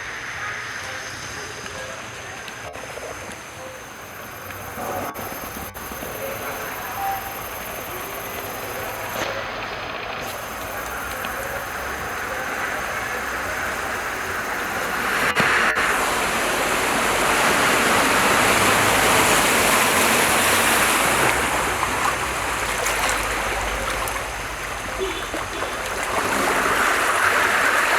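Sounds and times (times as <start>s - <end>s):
rushing floodwater: 0.0s - 27.9s.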